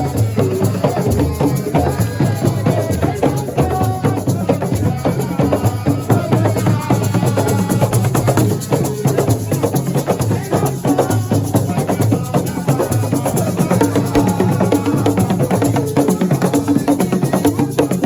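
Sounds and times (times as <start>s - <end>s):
fast percussion with rattles: 0.0s - 18.0s.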